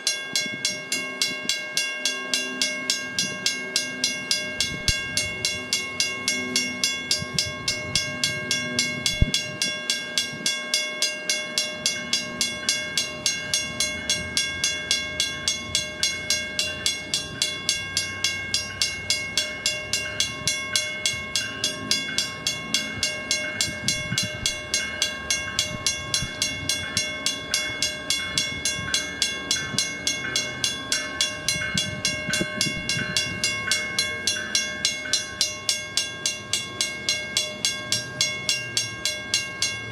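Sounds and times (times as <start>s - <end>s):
electronic crossing bell ringing: 0.0s - 39.9s.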